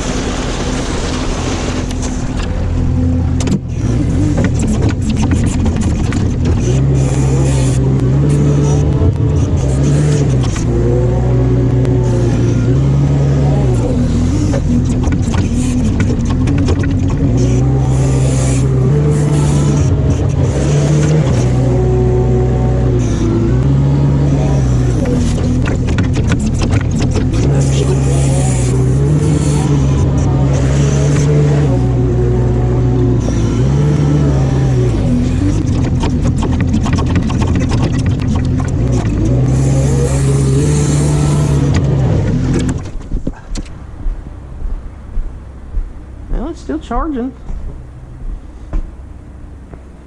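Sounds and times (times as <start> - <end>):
rapid clicking and rattling: 0.0 - 43.8
vehicle engine running: 0.0 - 50.0.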